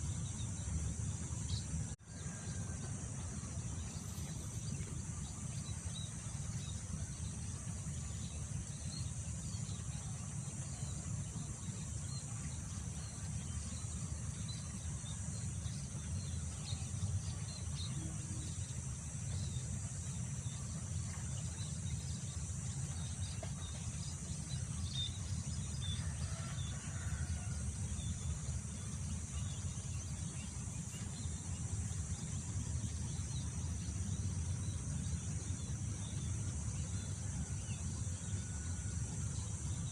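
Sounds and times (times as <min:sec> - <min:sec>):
high drone of insects: 0:00.0 - 0:39.9.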